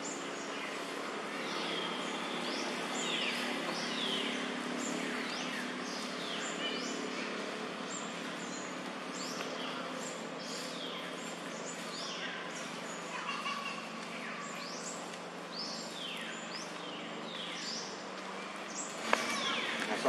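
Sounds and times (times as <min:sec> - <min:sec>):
birds calling high downward sweeps: 0:00.0 - 0:20.0
steady background hiss: 0:00.0 - 0:20.0.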